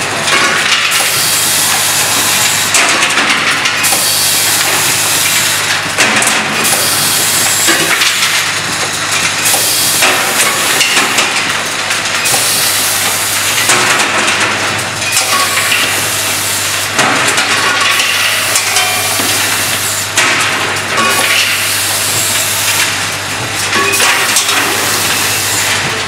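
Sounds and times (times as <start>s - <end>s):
machine humming: 0.0s - 26.0s
machinery rattling and hissing: 0.1s - 26.0s.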